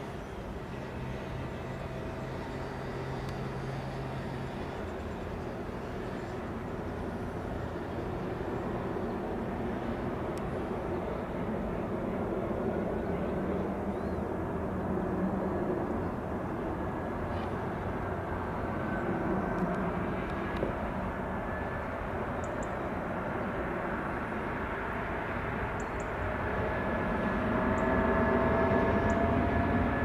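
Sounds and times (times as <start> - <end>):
jet engines rushing with whine: 0.0 - 30.0.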